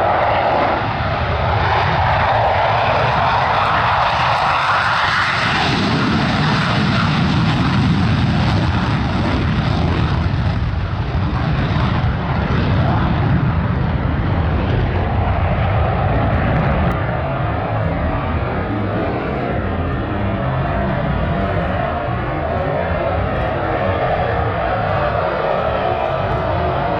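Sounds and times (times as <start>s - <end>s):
airplane engine flying past: 0.0s - 26.9s.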